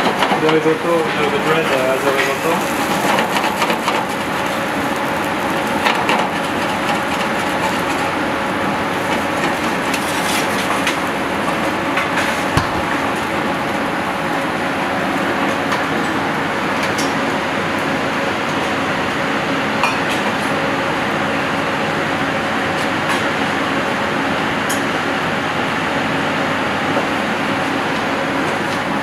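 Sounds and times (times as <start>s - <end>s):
kitchen extraction hiss and hum: 0.0s - 29.0s.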